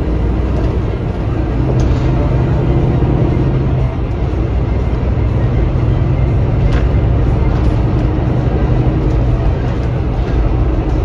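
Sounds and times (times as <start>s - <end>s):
coach diesel engine drone: 0.0s - 11.0s.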